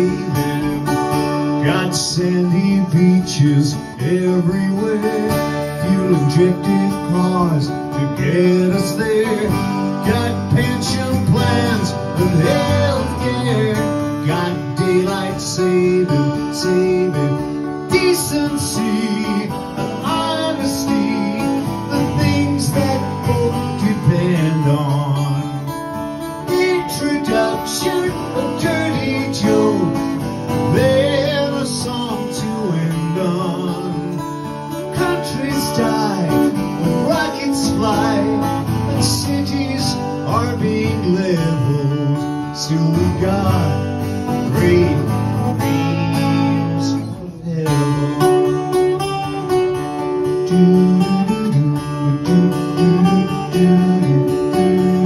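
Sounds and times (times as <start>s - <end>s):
man singing: 0.0s - 49.4s, 50.1s - 55.0s
guitar strumming: 0.0s - 55.0s.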